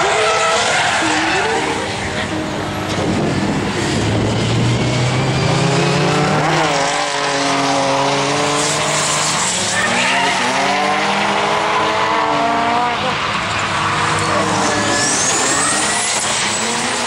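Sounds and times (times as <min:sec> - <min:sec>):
car engines at high revs: 0:00.0 - 0:17.0.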